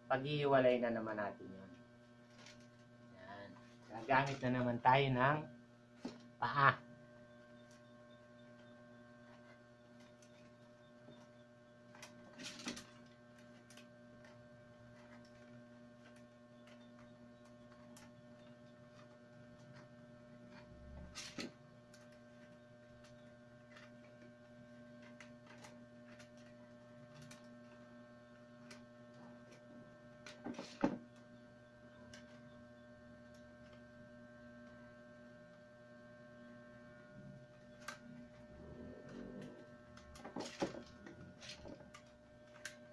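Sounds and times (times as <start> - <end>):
low electrical hum: 0.0 - 42.9
wicker crackling and rustling: 1.7 - 4.8, 9.0 - 35.8, 36.7 - 42.9.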